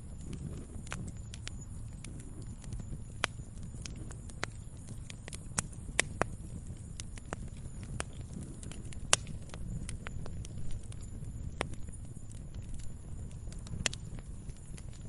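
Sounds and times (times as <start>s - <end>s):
crackles and pops of fire: 0.0s - 15.0s
low rumble of flames: 0.0s - 15.0s.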